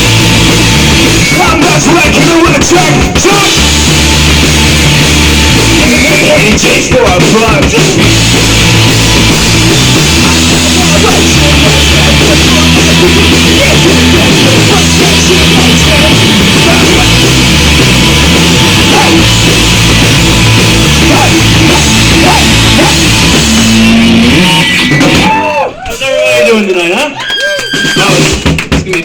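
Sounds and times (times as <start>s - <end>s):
rock band playing loud: 0.0s - 26.7s, 27.6s - 29.0s.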